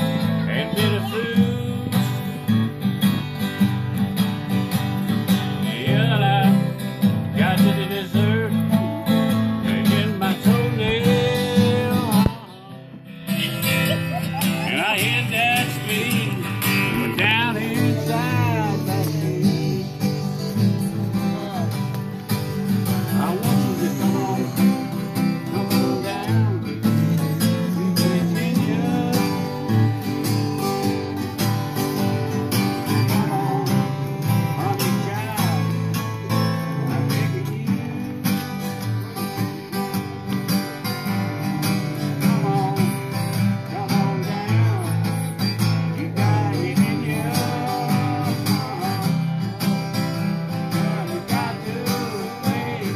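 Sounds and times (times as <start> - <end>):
acoustic guitars strummed and picked: 0.0 - 52.9.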